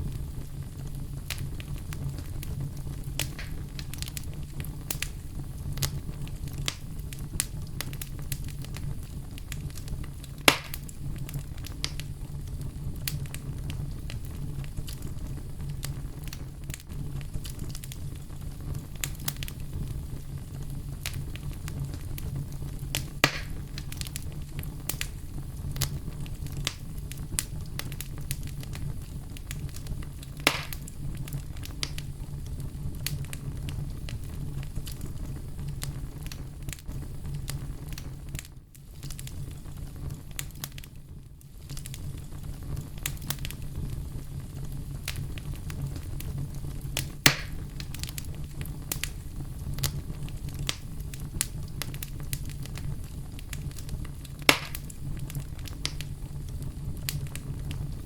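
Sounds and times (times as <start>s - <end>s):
campfire crackling: 0.0s - 58.0s
wood popping in fire: 0.0s - 58.0s.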